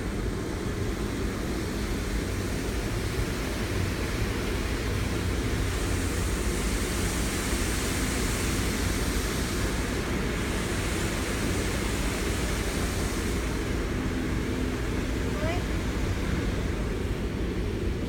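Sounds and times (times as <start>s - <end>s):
car wash rushing noise: 0.0s - 18.0s.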